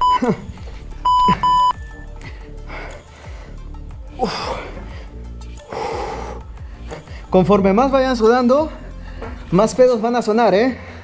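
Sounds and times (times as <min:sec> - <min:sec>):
music with deep bass and beat: 0:00.1 - 0:10.3.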